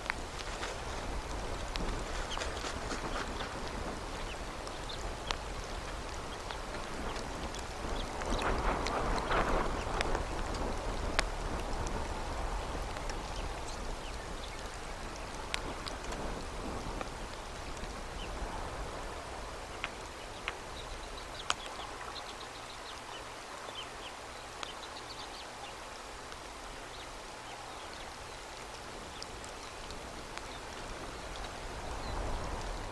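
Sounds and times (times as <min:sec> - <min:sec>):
small ticks: 0:00.0 - 0:18.5, 0:19.7 - 0:32.9
outdoor background hiss: 0:00.0 - 0:32.9.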